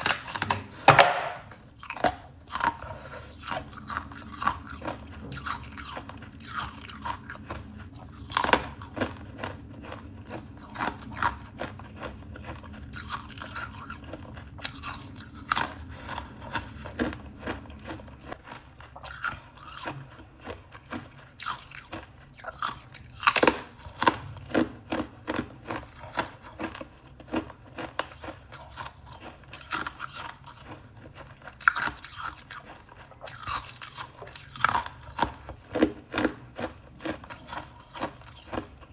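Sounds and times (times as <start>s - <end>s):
crunching and chewing crackers: 0.0s - 38.9s.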